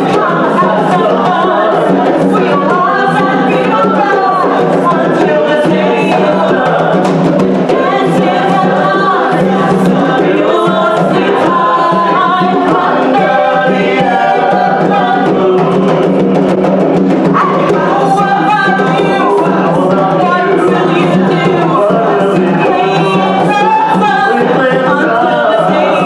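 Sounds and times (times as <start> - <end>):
group of voices singing: 0.0 - 26.0
hand drums playing: 0.0 - 26.0.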